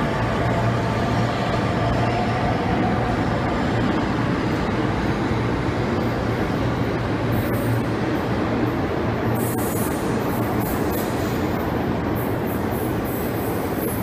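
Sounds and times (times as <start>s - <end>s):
metro train running hum: 0.0s - 14.0s.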